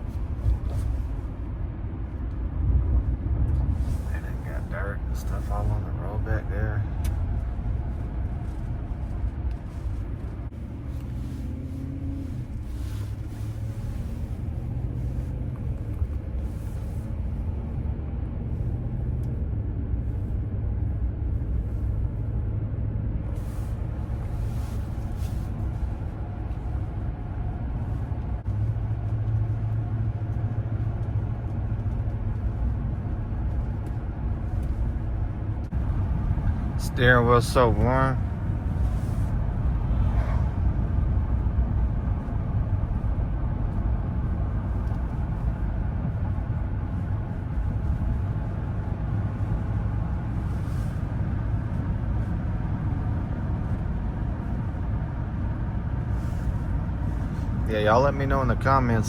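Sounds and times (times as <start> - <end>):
road noise inside cab: 0.0 - 59.0
truck engine rumble: 0.0 - 59.0.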